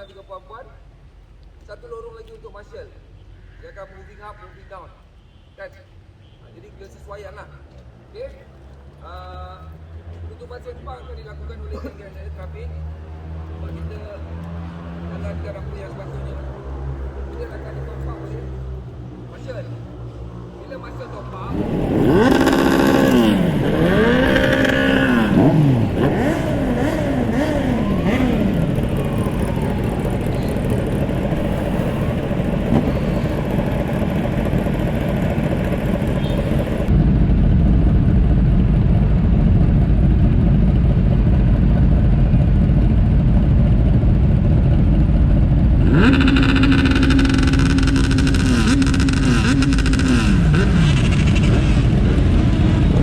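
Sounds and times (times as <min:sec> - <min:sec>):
motorcycle engines revving: 0:07.8 - 0:37.1, 0:37.9 - 0:53.0.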